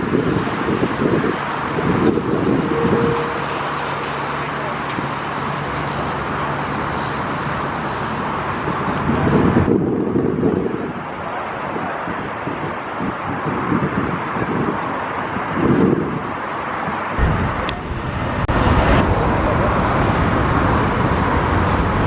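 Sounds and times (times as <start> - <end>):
steady rushing roar: 0.0 - 22.0
wind gusting against microphone: 0.0 - 22.0.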